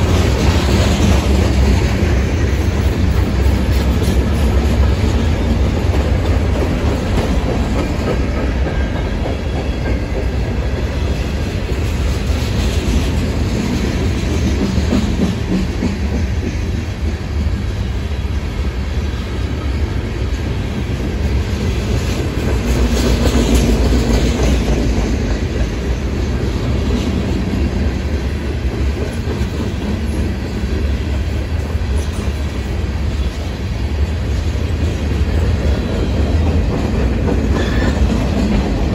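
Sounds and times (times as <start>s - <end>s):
freight train wheels rumbling on rails: 0.0s - 38.9s.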